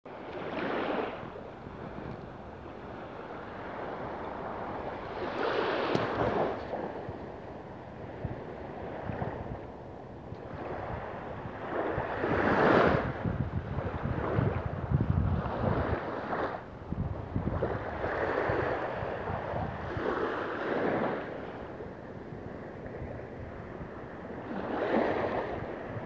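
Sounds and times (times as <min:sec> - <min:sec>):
small waves lapping on shore: 0:00.1 - 0:26.0
wind on microphone: 0:00.1 - 0:26.0.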